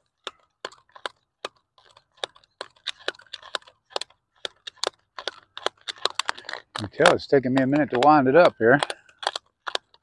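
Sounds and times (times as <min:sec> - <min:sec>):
plastic bottle crackling and clicking: 0:00.0 - 0:10.0.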